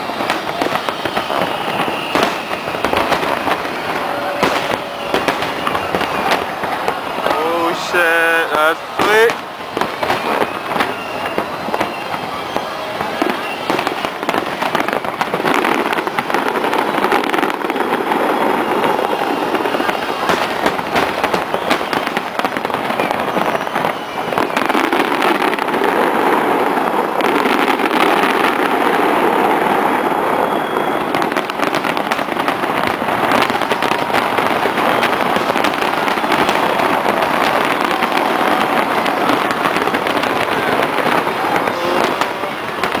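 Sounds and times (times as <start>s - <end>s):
fireworks crackling and popping: 0.0s - 43.0s.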